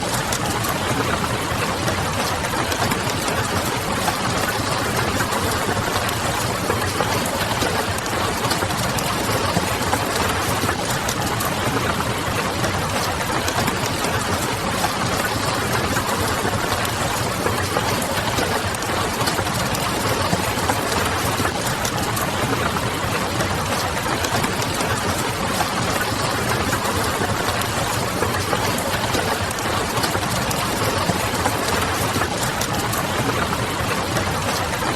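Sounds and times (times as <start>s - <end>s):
rain on a window: 0.0s - 34.9s.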